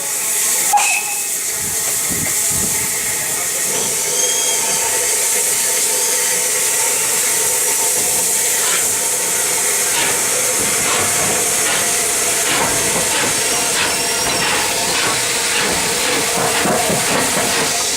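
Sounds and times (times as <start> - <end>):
steam hissing: 0.0 - 17.9.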